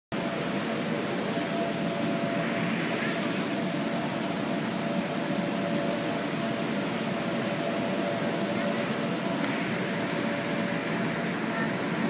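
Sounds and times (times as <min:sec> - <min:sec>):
blower fan rushing air: 0:00.1 - 0:12.0.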